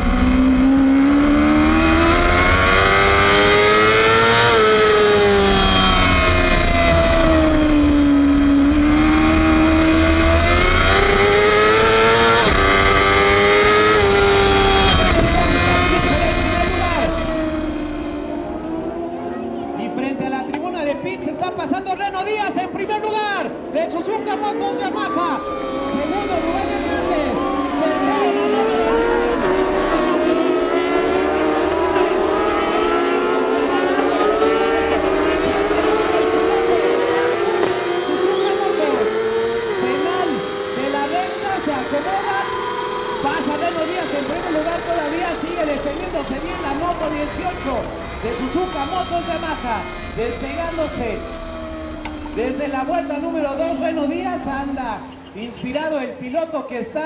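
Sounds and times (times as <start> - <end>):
racing motorcycle engine: 0.0 - 57.0.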